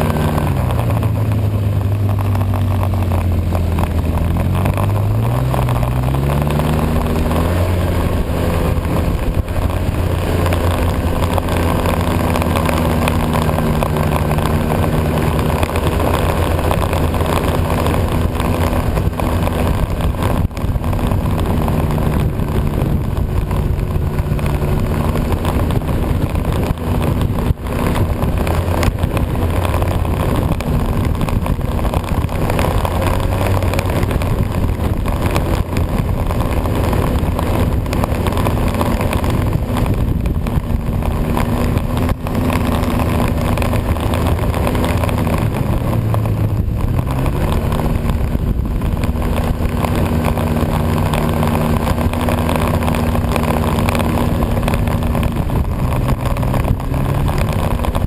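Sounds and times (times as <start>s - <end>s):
snowmobile engine running: 0.0s - 58.0s
wind noise: 0.0s - 58.0s.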